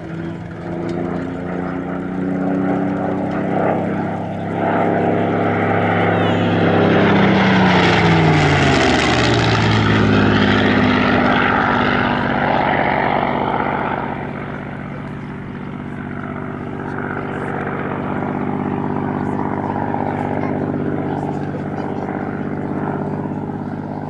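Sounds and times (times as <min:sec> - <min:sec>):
propeller plane flying past: 0:00.0 - 0:24.0.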